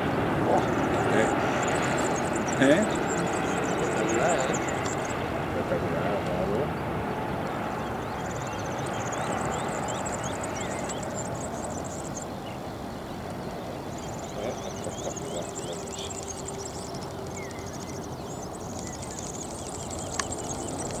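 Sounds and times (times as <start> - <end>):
distant jet airliner rumble: 0.0 - 21.0
small birds chirping: 0.0 - 21.0.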